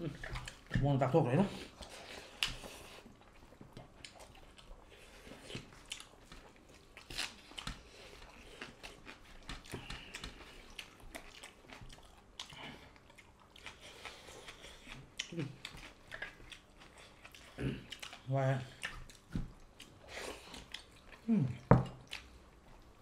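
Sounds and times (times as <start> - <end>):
chewing: 0.0 - 23.0.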